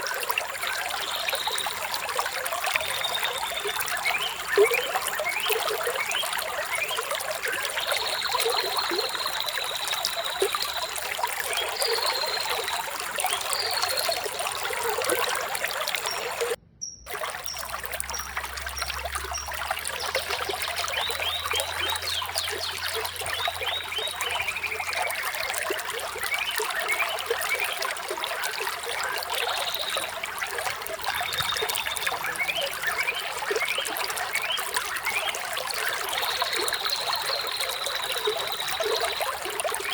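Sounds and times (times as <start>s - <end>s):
small birds chirping: 0.0s - 39.9s
water trickling: 0.0s - 39.9s.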